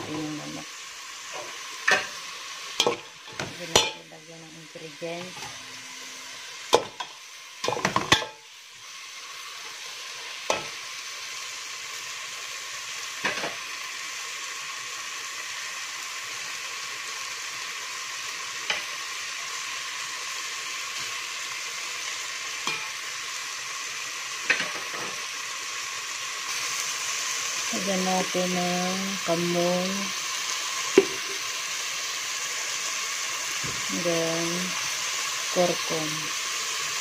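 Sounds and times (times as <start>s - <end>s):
chicken sizzling in metal pot: 0.0s - 37.0s.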